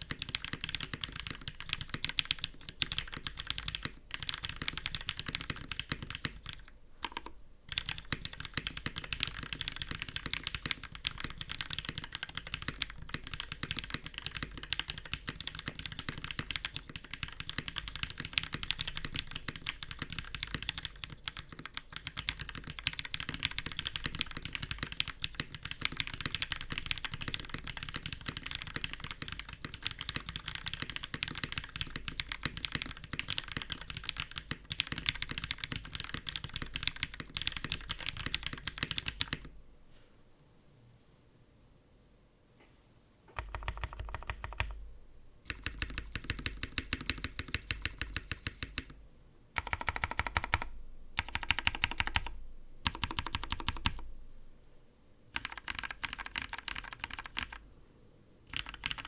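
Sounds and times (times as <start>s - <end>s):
fast mechanical keyboard typing: 0.0s - 39.5s, 43.3s - 44.8s, 45.5s - 48.9s, 49.6s - 54.0s, 55.3s - 57.6s, 58.5s - 59.0s.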